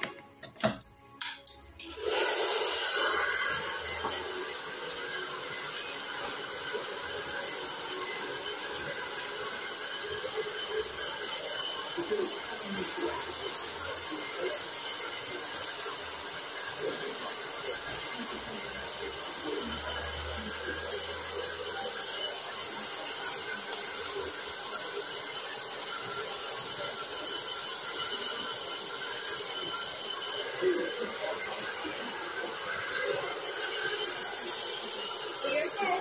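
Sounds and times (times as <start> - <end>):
hair dryer blowing: 1.8 - 36.0.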